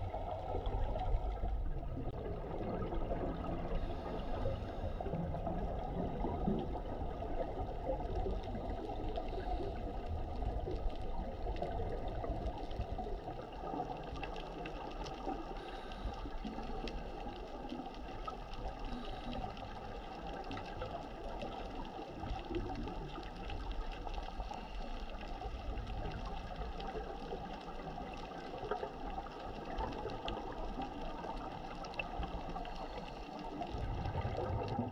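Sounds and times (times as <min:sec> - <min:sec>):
underwater rush of water: 0:00.0 - 0:34.9.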